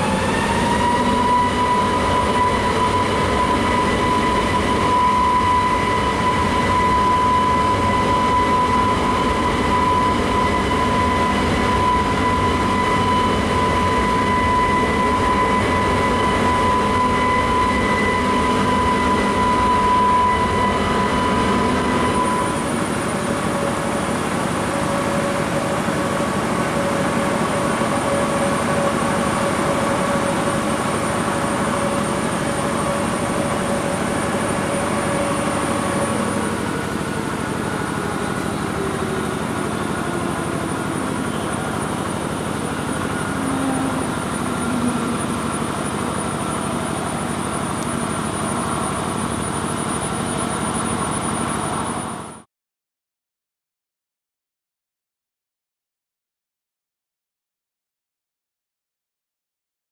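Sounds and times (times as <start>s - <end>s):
jet engine whine: 0.0s - 52.5s.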